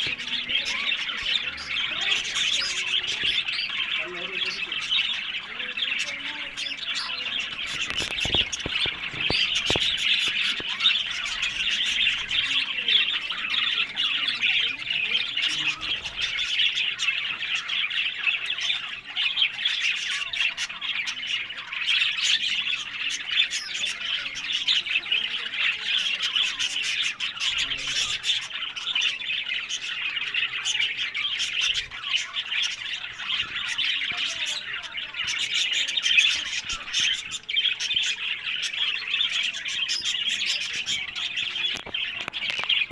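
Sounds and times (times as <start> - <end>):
budgies chattering: 0.0 - 42.9.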